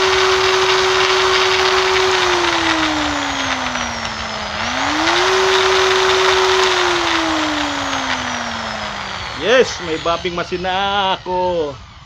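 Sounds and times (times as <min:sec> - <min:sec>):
buffing machine motor whine: 0:00.0 - 0:12.0.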